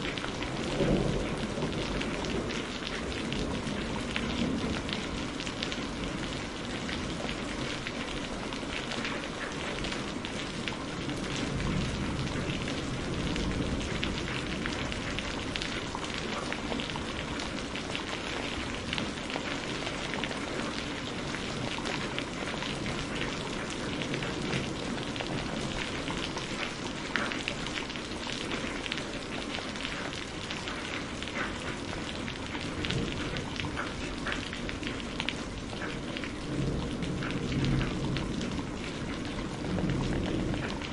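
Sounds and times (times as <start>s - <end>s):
rain on hard surfaces: 0.0s - 40.9s.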